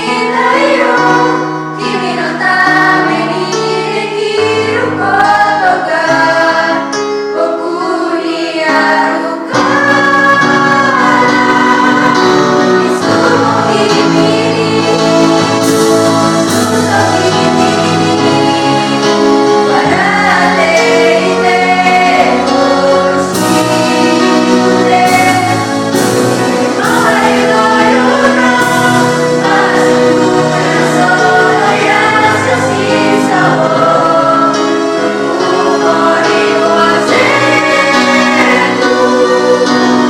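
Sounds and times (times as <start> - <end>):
vocal group singing in unison: 0.0 - 40.0.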